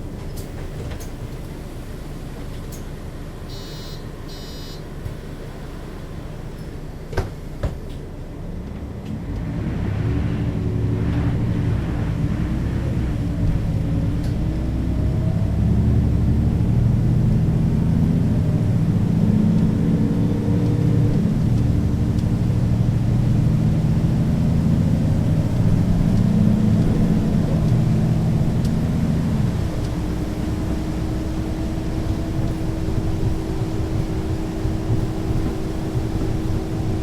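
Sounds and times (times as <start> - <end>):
bus diesel engine pulling under load: 0.0 - 37.0.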